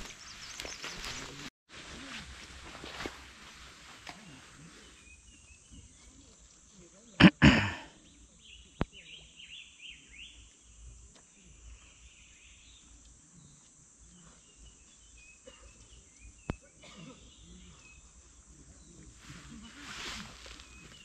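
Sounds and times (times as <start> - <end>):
bird chirping: 0.0 - 1.5, 4.7 - 21.0.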